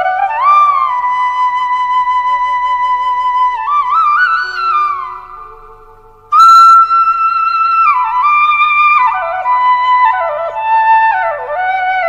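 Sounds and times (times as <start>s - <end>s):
solo flute melody: 0.0s - 12.0s.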